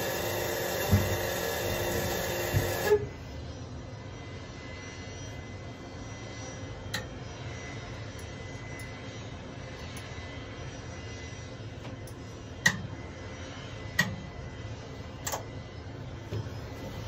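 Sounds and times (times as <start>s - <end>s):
faint high whine: 0.0s - 17.0s
mechanical hum: 0.0s - 17.0s.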